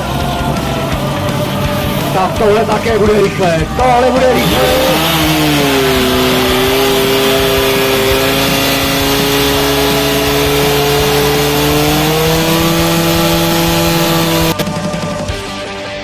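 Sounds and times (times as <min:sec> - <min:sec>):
pump engine running at high revs: 0:00.0 - 0:15.5.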